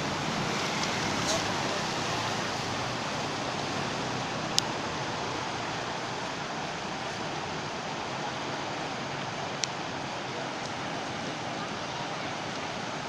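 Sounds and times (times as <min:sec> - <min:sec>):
rainwater rushing: 0:00.0 - 0:13.0.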